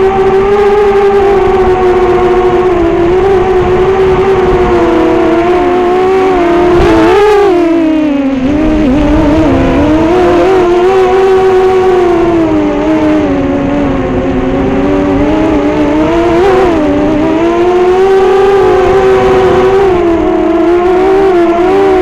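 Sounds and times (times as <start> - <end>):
drone motors whining: 0.0 - 22.0
wind rumble on microphone: 0.0 - 22.0.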